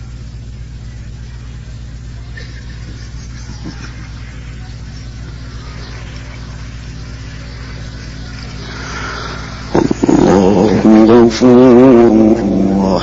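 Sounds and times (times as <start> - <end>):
electrical hum with hiss: 0.0 - 13.0
faint murmur of listeners: 0.0 - 13.0.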